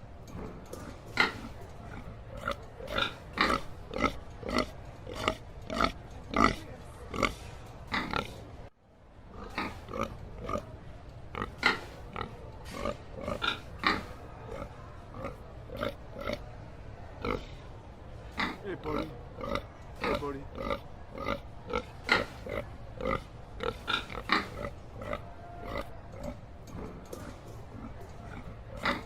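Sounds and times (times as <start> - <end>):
pig grunting: 0.3 - 8.5, 9.3 - 16.5, 18.3 - 29.0.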